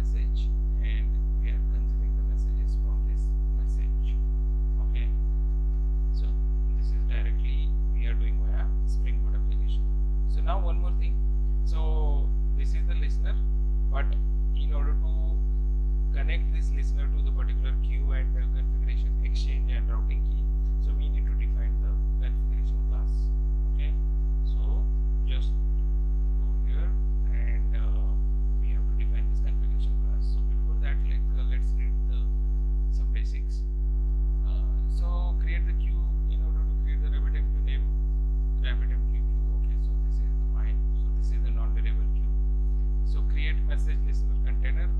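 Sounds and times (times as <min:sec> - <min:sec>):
electrical mains hum: 0:00.0 - 0:44.9.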